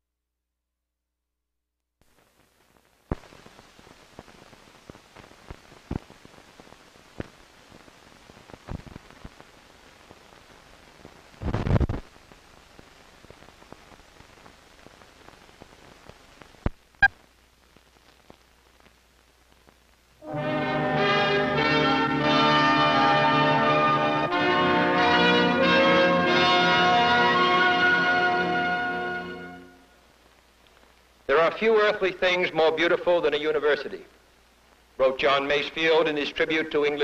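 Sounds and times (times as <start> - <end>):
film soundtrack hiss and crackle: 2.0 - 37.0.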